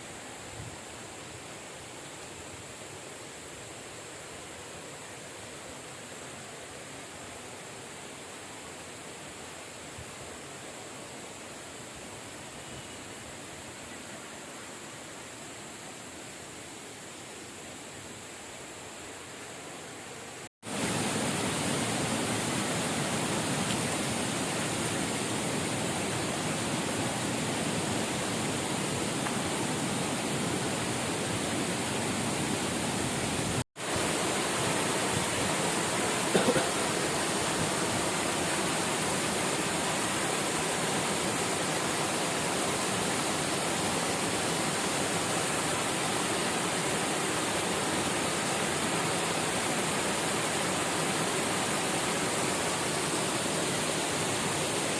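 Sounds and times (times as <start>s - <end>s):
flowing water: 0.0s - 54.9s.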